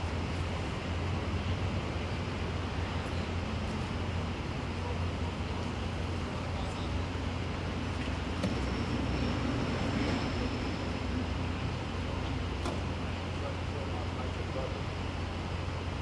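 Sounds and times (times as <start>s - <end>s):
traffic engine rumble: 0.0s - 16.0s.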